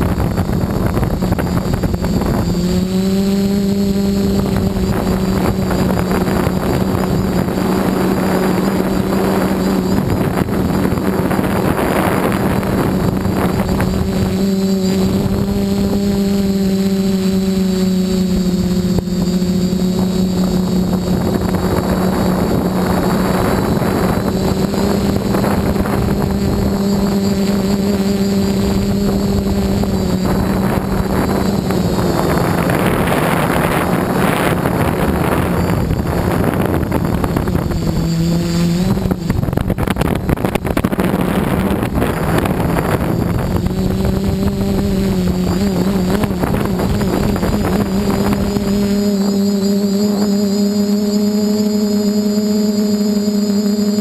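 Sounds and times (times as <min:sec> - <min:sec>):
drone motors humming: 0:00.0 - 0:54.0
wind noise on microphone: 0:00.0 - 0:54.0.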